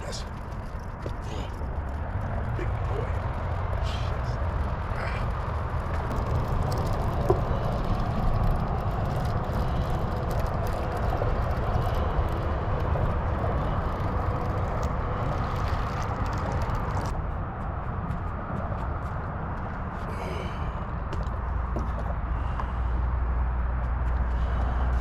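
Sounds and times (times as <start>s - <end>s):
outdoor background rumble: 0.0s - 25.0s.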